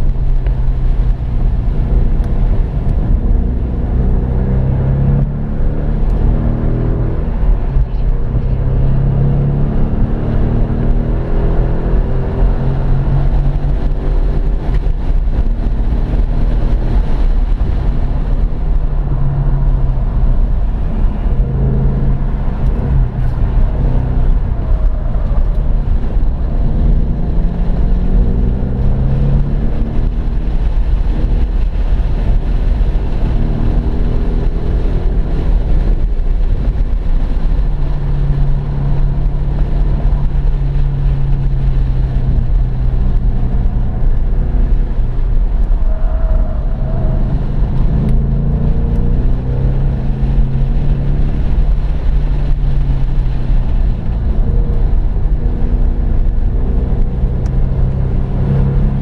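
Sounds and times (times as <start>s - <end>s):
car engine accelerating: 0.0s - 59.0s
road and wind rumble: 0.0s - 59.0s.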